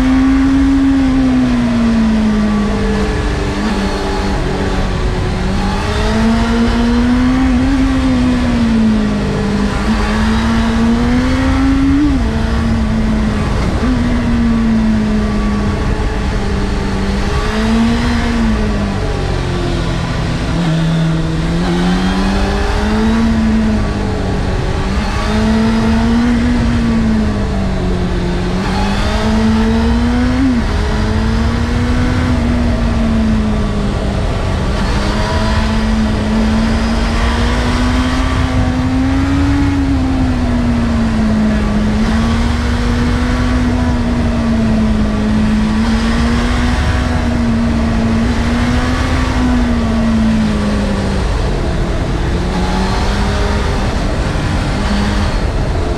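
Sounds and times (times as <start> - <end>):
motorcycle engine while riding: 0.0 - 55.9
wind rumble on microphone: 0.0 - 55.9.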